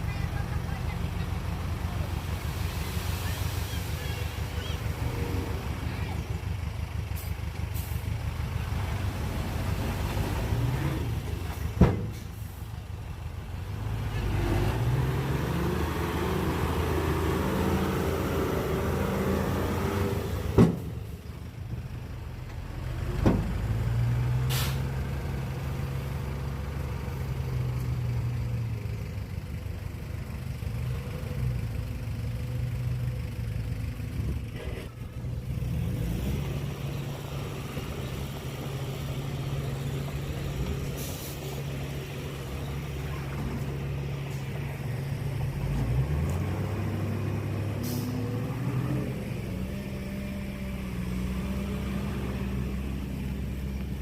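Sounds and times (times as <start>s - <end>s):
heavy diesel engines revving: 0.0s - 54.0s.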